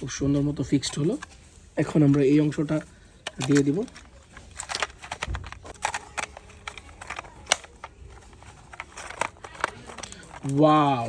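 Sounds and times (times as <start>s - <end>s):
plastic toy parts clicking: 0.1s - 11.0s.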